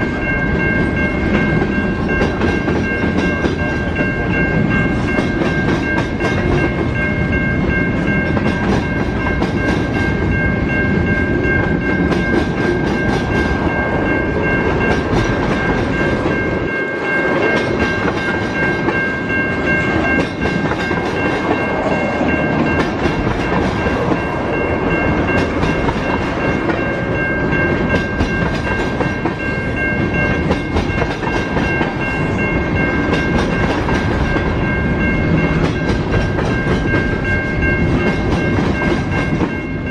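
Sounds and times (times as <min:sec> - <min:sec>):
train wheels clattering over rails: 0:00.0 - 0:10.4, 0:11.0 - 0:39.9
steady high-pitched tone: 0:00.0 - 0:39.9.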